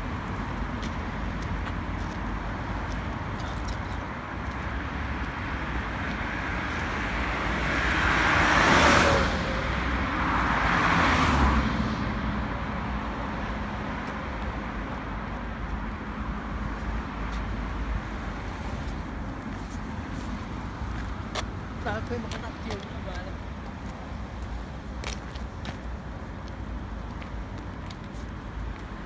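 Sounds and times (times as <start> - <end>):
road traffic noise: 0.0 - 29.0
vehicles passing close by: 0.0 - 29.0.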